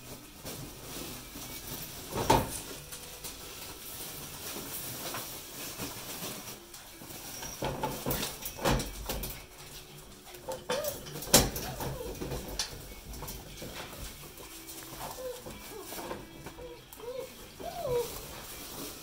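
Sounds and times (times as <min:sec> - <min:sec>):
puppies scuffling and playing: 0:00.0 - 0:19.0.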